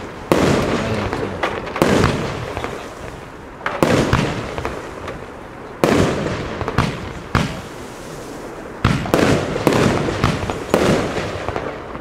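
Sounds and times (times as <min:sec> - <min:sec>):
faint firework crackle: 0:00.0 - 0:12.0
firework bangs: 0:00.0 - 0:12.0.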